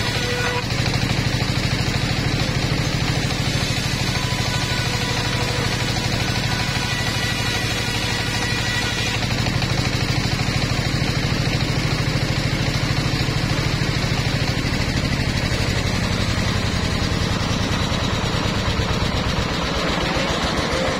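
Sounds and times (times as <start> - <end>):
saw blade spinning free: 0.0 - 20.8.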